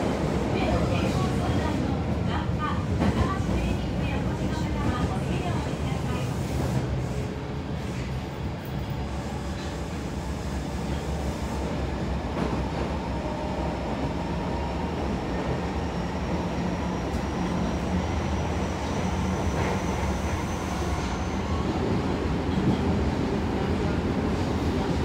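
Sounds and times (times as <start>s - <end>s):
subway wheels rumbling on rail: 0.0s - 25.0s.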